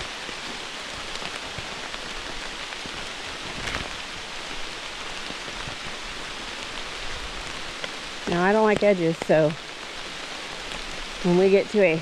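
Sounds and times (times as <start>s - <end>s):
raindrops ticking: 0.0s - 12.0s
steady rain falling: 0.0s - 12.0s.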